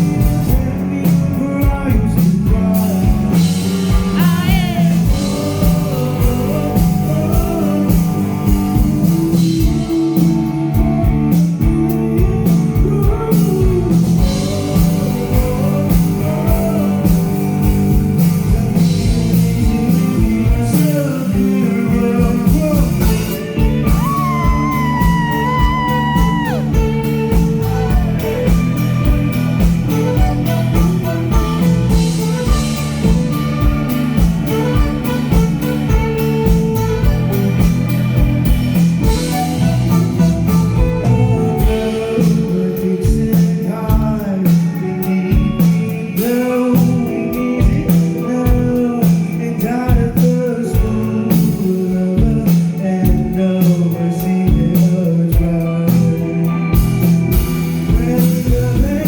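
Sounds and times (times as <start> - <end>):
drum beat: 0.0 - 52.5, 56.8 - 59.0
bass: 0.0 - 59.0
electric guitar: 0.0 - 59.0
person singing: 0.0 - 59.0.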